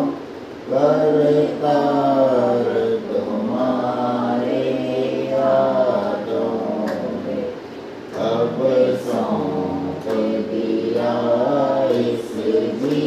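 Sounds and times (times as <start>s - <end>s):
voices chanting a hymn: 0.0s - 13.0s.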